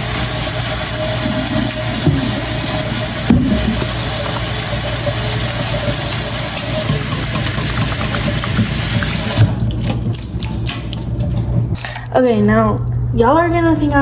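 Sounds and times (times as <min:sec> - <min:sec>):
kitchen tap running: 0:00.0 - 0:12.0
faint hum: 0:00.0 - 0:14.0.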